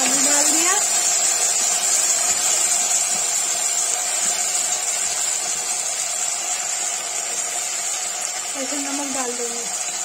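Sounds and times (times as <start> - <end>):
potatoes sizzling in hot oil: 0.0 - 10.0.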